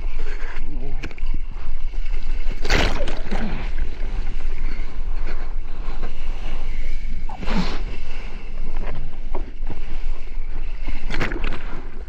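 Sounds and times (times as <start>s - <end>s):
ocean water washing: 0.0s - 12.0s.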